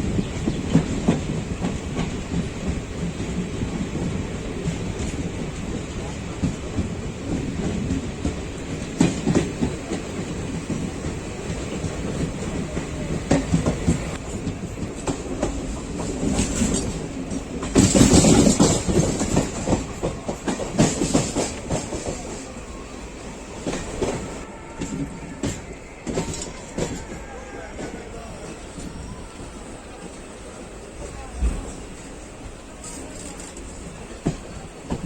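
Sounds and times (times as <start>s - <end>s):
wheels clacking over rail joints: 0.0s - 29.0s, 32.5s - 35.0s
train rumble: 0.0s - 35.0s.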